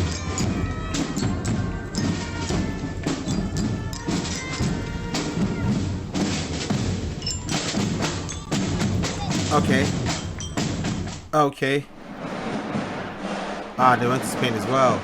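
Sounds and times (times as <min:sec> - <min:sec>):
marching band playing: 0:00.0 - 0:15.0
sharp drum strokes: 0:00.0 - 0:15.0.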